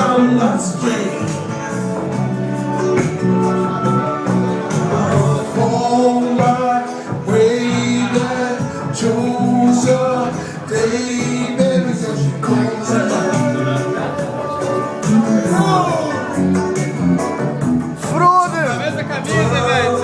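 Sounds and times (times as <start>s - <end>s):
band playing live: 0.0s - 20.0s
man singing: 0.0s - 20.0s.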